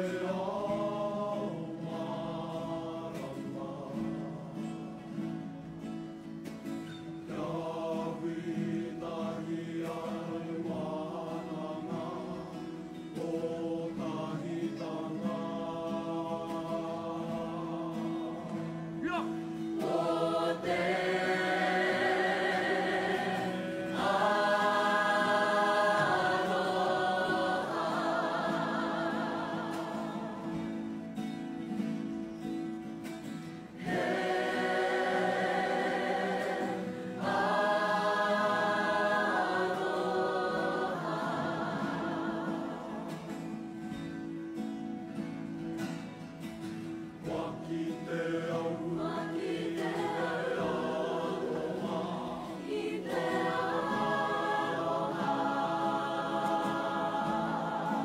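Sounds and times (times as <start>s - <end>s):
choir singing: 0.0s - 6.0s, 6.6s - 45.1s, 46.4s - 58.0s.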